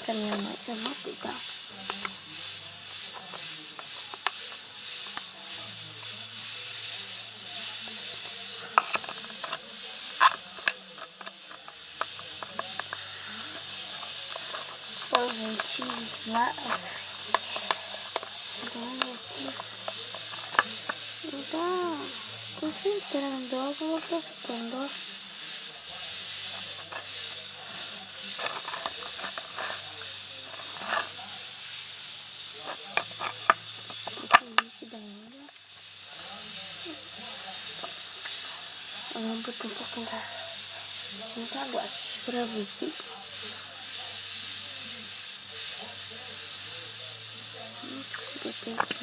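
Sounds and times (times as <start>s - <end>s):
steady high hiss: 0.0s - 49.0s.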